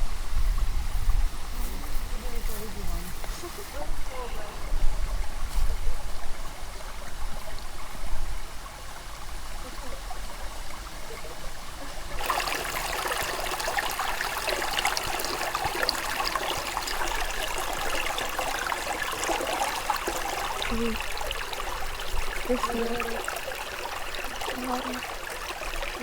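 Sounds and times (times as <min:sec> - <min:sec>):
running water: 0:00.0 - 0:26.0.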